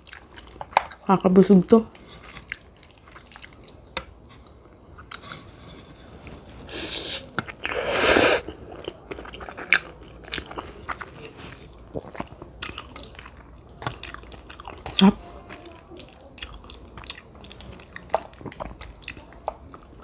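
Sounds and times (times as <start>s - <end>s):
wet chewing: 0.0s - 5.4s, 6.8s - 20.0s.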